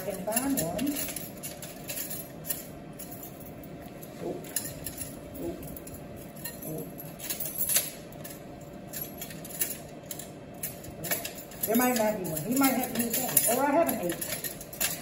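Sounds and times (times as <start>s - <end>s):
metal instruments clinking: 0.0s - 15.0s.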